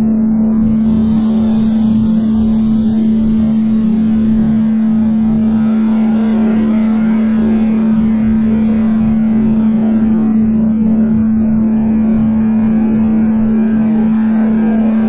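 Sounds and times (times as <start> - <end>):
steady humming tone: 0.0 - 15.0.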